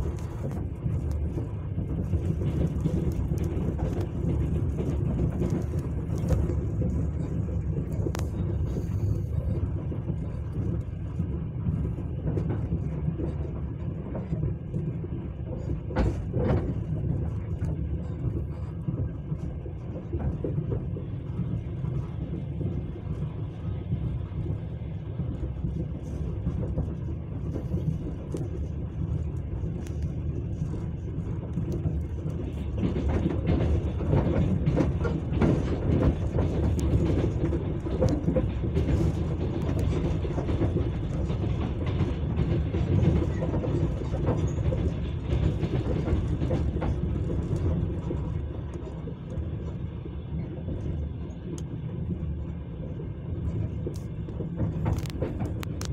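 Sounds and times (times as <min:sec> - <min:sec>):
wheels clicking over rail joints: 0:00.0 - 0:11.0, 0:11.6 - 0:55.9
train wheels rumbling: 0:00.0 - 0:55.9.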